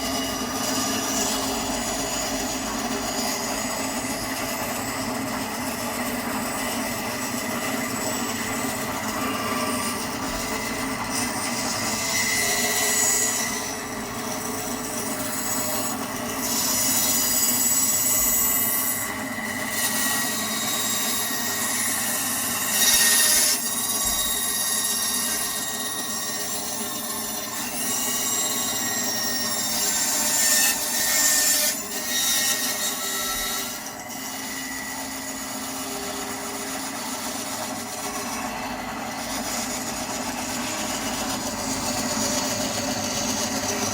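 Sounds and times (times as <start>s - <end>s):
bandsaw cutting wood: 0.0s - 43.9s
bandsaw motor hum: 0.0s - 43.9s.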